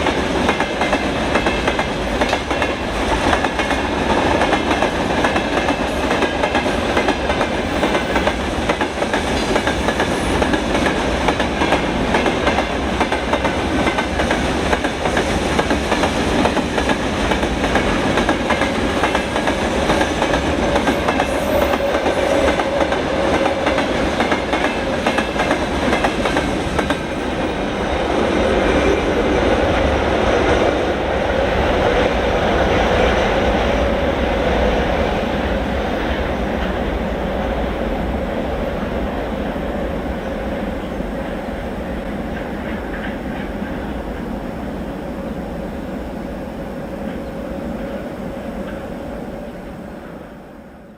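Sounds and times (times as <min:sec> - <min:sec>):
freight train rumbling: 0:00.0 - 0:50.9.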